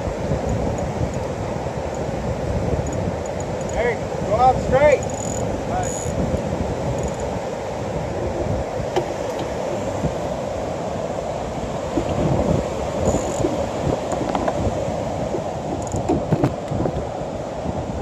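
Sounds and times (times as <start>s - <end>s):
breaking surf: 0.0s - 18.0s
wind buffeting microphone: 0.0s - 18.0s.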